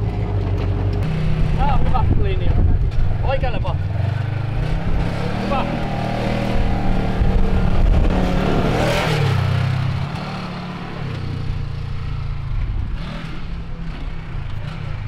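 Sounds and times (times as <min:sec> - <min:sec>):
off-road buggy engine revving: 0:00.0 - 0:15.0
tyres churning dirt: 0:00.0 - 0:15.0.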